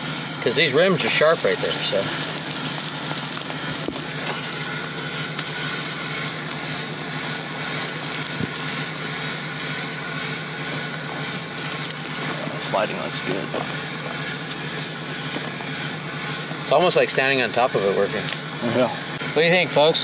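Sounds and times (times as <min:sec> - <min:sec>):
vehicle engine idling: 0:01.0 - 0:20.0.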